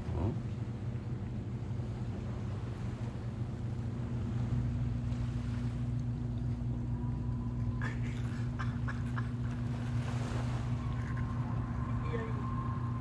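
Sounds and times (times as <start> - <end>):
low engine-like hum: 0.0 - 13.0.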